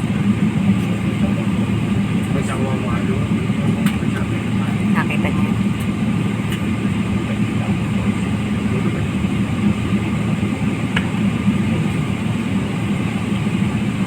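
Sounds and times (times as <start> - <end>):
jet engines humming: 0.0 - 14.0.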